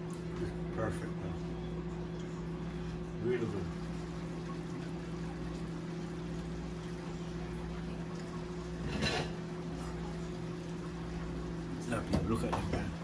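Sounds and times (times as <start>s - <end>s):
steady hum: 0.0s - 13.0s
stew simmering and bubbling: 0.0s - 13.0s.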